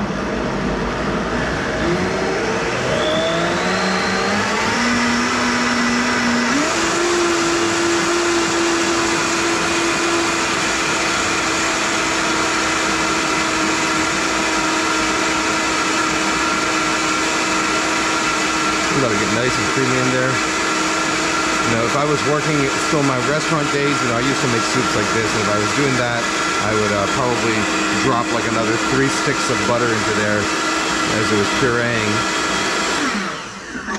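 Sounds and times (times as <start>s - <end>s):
blender motor whine: 0.0s - 33.9s.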